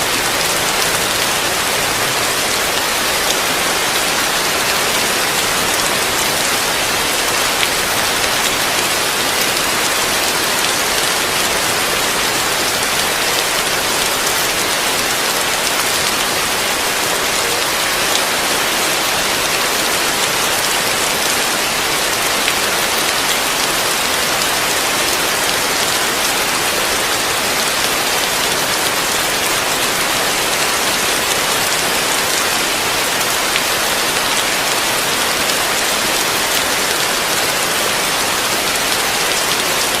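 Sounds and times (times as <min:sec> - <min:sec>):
heavy rain on a roof: 0:00.0 - 0:40.0.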